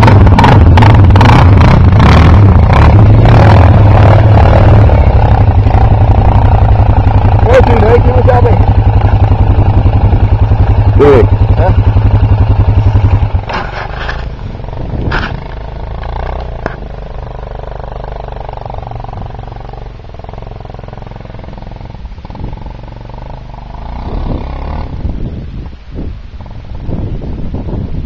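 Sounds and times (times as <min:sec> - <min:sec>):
quad engine running at low revs: 0:00.0 - 0:28.0.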